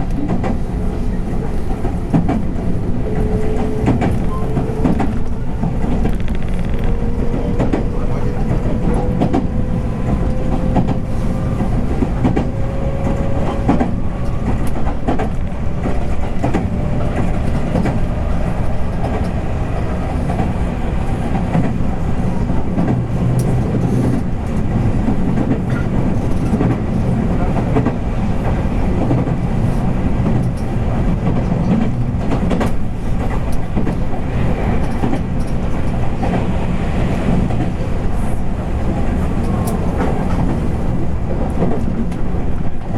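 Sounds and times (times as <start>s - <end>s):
rail-joint clicks: 0.0s - 42.9s
train wheels rumbling on rail: 0.0s - 42.9s.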